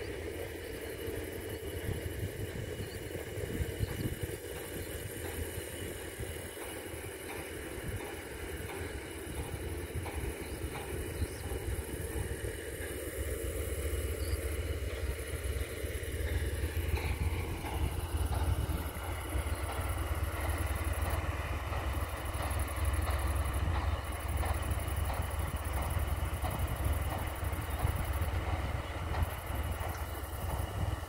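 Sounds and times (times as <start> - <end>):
tractor engine rumble: 0.0 - 31.0.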